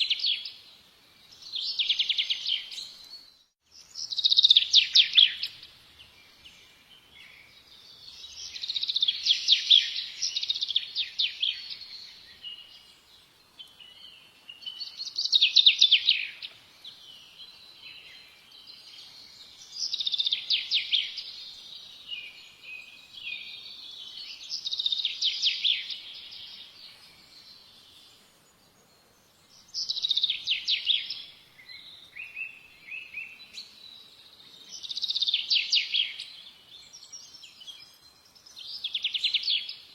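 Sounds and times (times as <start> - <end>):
songbird singing trilled notes: 0.0 - 39.9.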